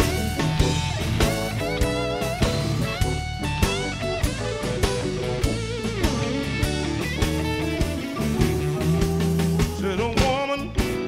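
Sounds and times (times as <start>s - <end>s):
bass: 0.0s - 11.0s
electric guitar lead: 0.0s - 11.0s
steady drumbeat: 0.0s - 11.0s.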